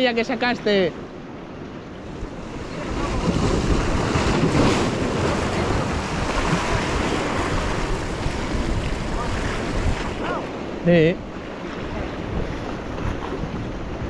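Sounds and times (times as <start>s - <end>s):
waves breaking over rocks: 1.3s - 14.0s
wind buffeting microphone: 1.8s - 14.0s.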